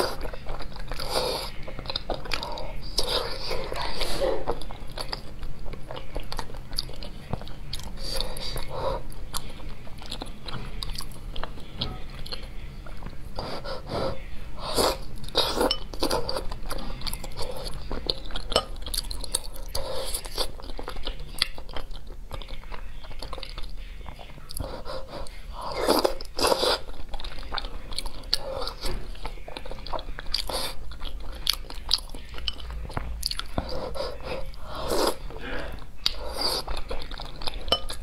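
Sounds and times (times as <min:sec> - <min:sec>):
wet chewing mouth sounds: 0:00.0 - 0:14.0, 0:14.7 - 0:38.0.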